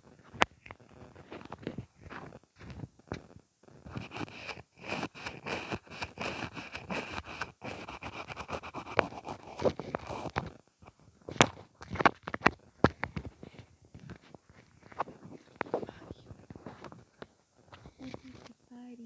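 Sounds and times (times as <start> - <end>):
mascara wand scraping in tube: 0.0 - 18.6.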